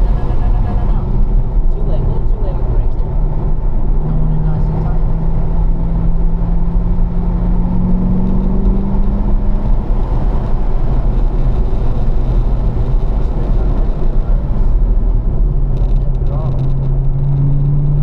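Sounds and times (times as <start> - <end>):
car engine droning: 0.0 - 18.0
road and wind noise: 0.0 - 18.0.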